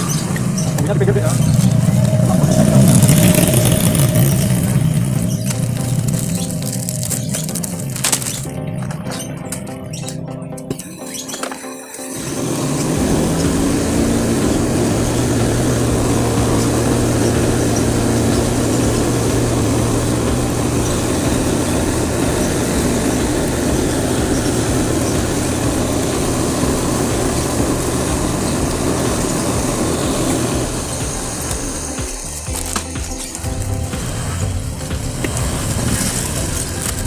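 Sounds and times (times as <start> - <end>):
cotton candy machine whirring: 0.0 - 37.0.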